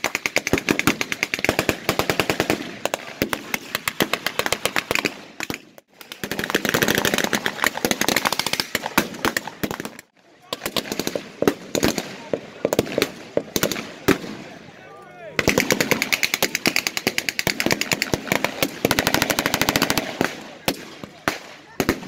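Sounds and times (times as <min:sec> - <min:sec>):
rapid gunfire: 0:00.0 - 0:14.4, 0:15.4 - 0:22.0.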